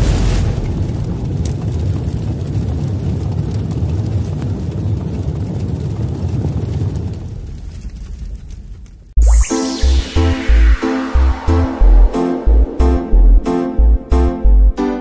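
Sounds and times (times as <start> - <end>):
low rumbling: 0.2 - 14.8.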